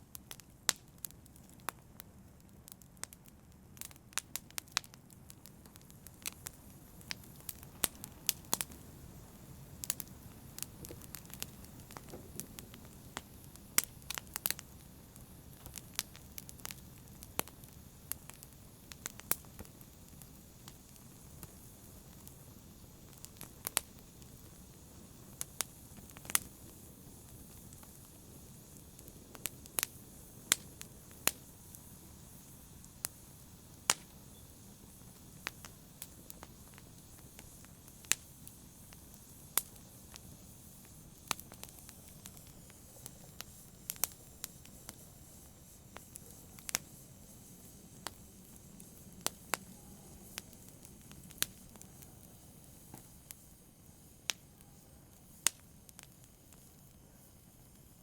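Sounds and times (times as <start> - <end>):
hiss of burning: 0.0 - 58.0
wood fire crackling and popping: 0.0 - 58.0.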